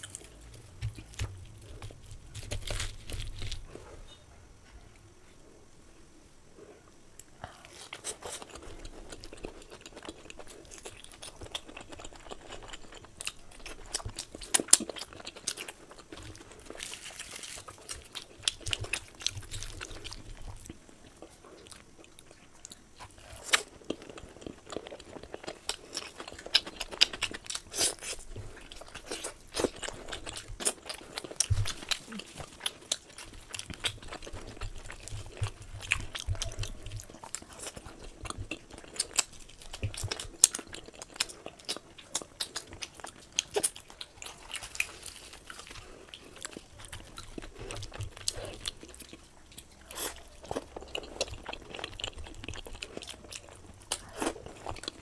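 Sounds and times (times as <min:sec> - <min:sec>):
person chewing and crunching: 0:00.0 - 0:04.2, 0:07.2 - 0:55.0.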